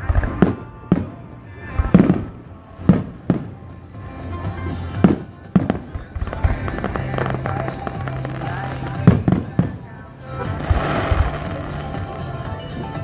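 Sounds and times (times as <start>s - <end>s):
firework bangs: 0.0s - 13.0s
music: 0.0s - 13.0s.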